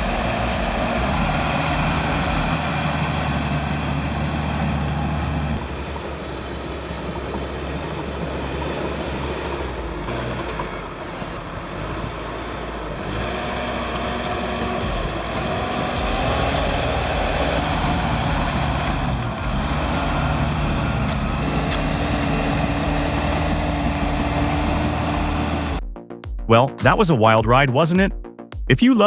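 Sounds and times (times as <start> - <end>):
heavy machinery engine running: 0.0 - 25.8.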